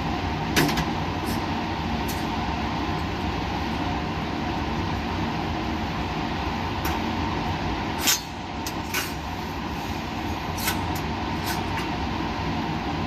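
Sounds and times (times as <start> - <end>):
machine and ventilation hum: 0.0 - 13.0.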